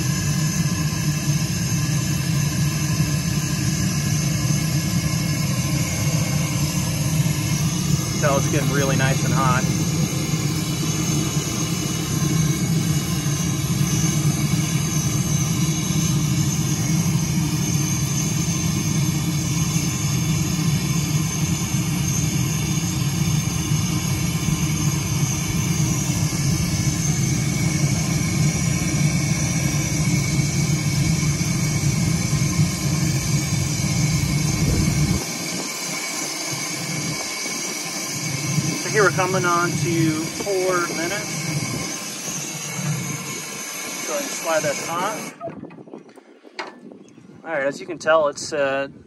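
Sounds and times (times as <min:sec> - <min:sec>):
gas torch flame roaring: 0:00.0 - 0:45.9.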